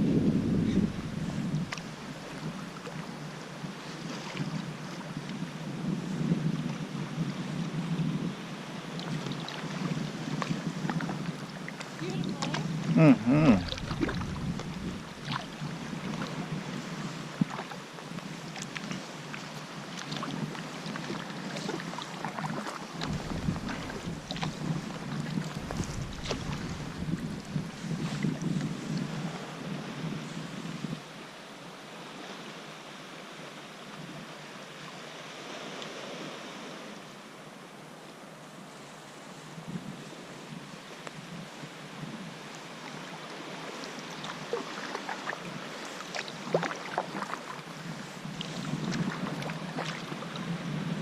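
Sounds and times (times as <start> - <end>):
water splashing around kayak: 0.8 - 37.5, 42.0 - 51.0.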